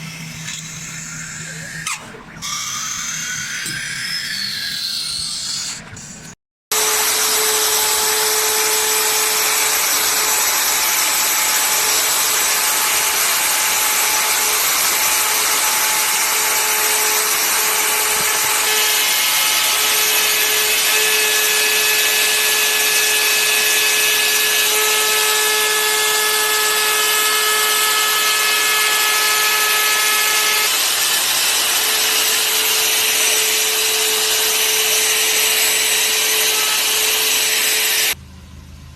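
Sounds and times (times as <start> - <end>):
power tool cutting wood: 0.0 - 5.8, 6.7 - 38.2.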